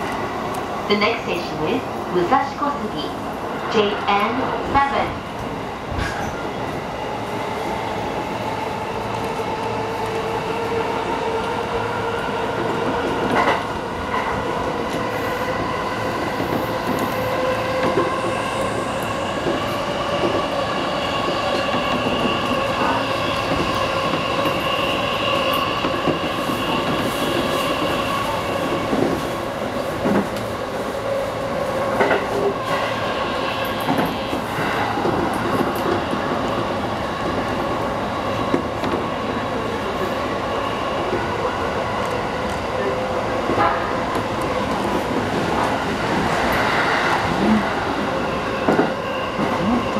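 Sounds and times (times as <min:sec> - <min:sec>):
train running noise: 0:00.0 - 0:49.9.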